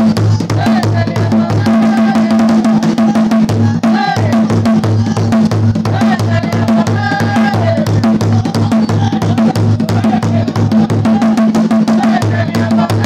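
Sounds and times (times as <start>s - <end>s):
loud steady drumming: 0.0s - 13.0s
voices singing: 0.0s - 13.0s.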